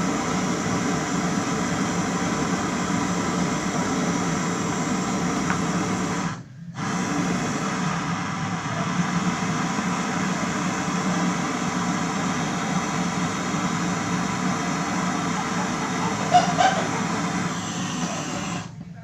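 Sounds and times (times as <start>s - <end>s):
machine hiss over low hum: 0.0s - 19.0s.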